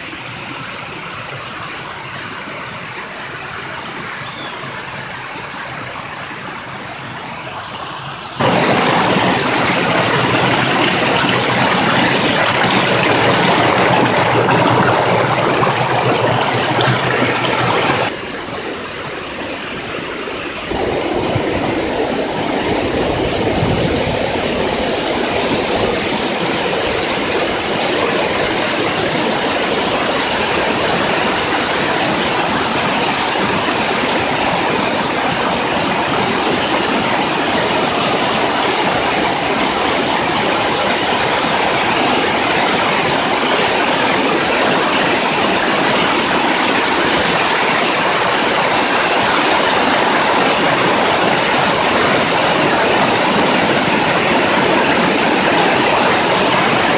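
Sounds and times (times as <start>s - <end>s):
waterfall rushing over rocks: 0.0s - 56.9s.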